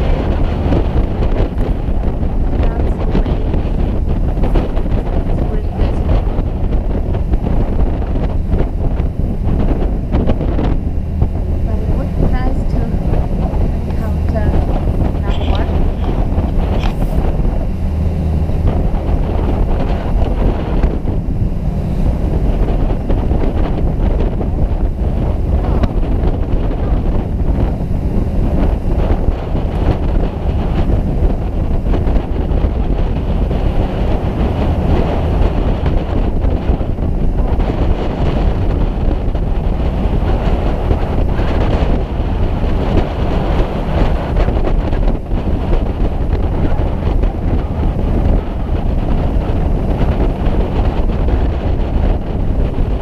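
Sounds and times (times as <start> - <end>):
boat engine hum: 0.0 - 53.0
sea wash: 0.0 - 53.0
wind buffeting microphone: 0.0 - 53.0.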